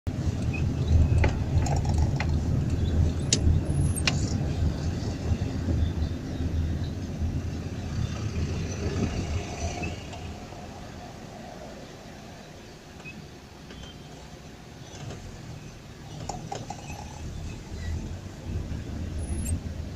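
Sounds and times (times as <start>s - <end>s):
car engine and road rumble: 0.1s - 19.9s.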